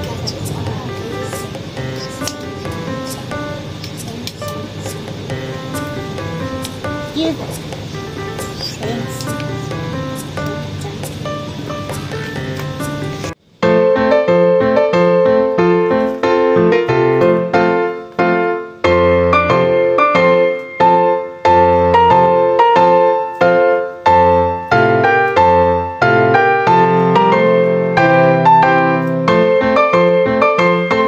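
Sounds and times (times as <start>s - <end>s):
background piano music: 0.0s - 31.0s.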